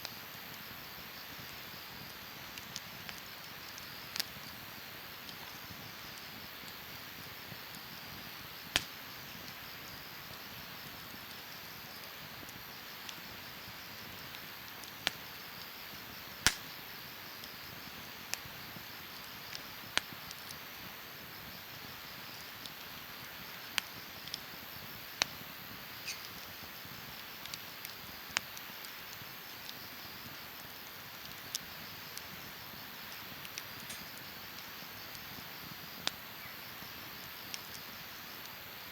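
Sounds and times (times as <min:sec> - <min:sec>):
fire crackling and popping: 0:00.0 - 0:38.9
wood fire hissing: 0:00.0 - 0:38.9.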